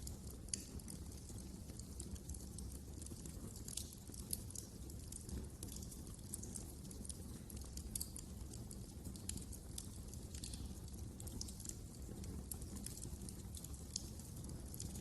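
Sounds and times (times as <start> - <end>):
low rumble of burning flames: 0.0 - 15.0
wood fire crackling: 0.0 - 15.0.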